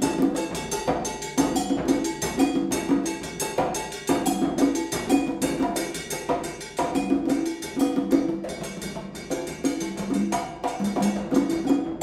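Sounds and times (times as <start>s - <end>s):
percussion ensemble music: 0.0s - 12.0s.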